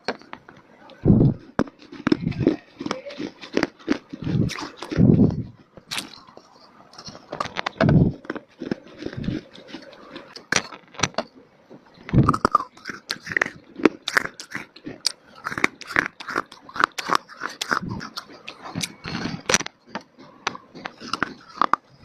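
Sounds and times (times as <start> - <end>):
crunching and chewing clay: 0.0 - 22.0.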